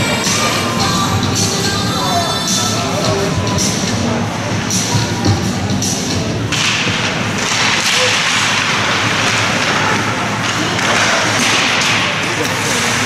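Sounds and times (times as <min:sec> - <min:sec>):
crowd noise: 0:00.0 - 0:13.0.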